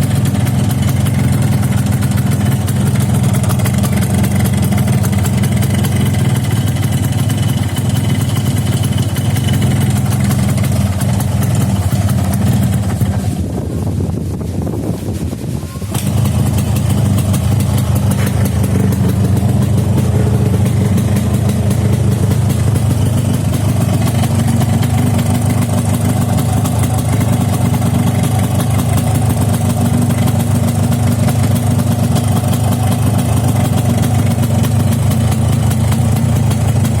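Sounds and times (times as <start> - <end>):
motorcycle engine idling roughly: 0.0 - 37.0.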